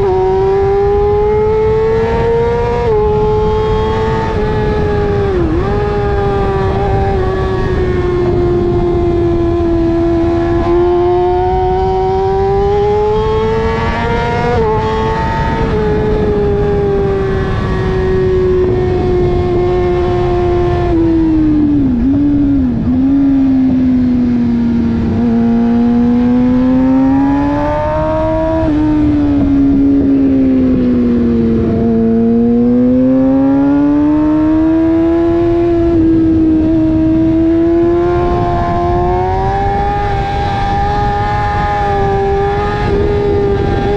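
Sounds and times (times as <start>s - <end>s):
motorcycle engine accelerating: 0.0s - 43.9s
wind rushing over microphone: 0.0s - 43.9s.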